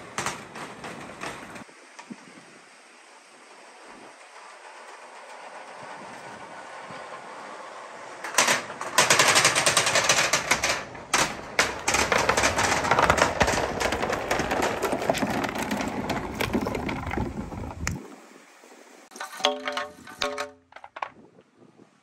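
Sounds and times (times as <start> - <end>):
balls rattling down wooden chute: 0.0 - 1.7, 4.0 - 18.0, 19.1 - 21.3.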